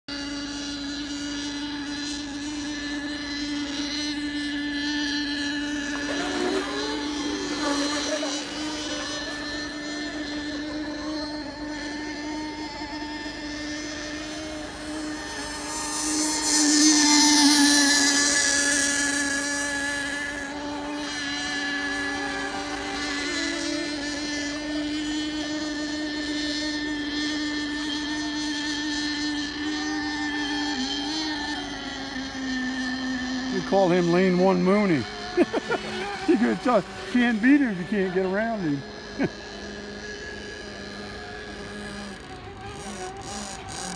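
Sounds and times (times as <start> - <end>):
electric motor whine: 0.1 - 43.9.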